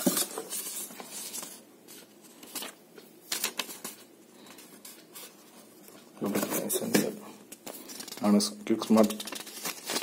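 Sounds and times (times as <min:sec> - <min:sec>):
paper and cardboard rustling: 0:00.0 - 0:10.0.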